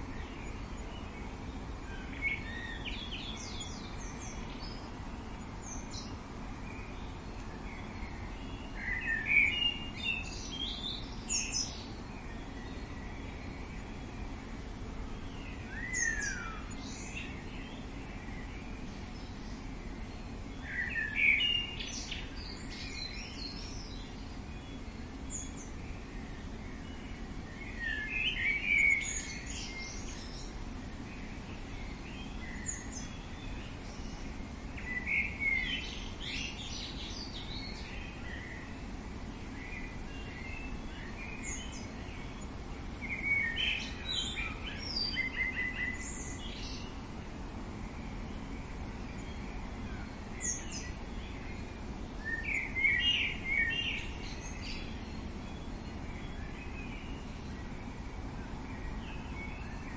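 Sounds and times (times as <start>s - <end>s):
birds chirping: 0.0s - 59.9s
low background noise: 0.0s - 59.9s.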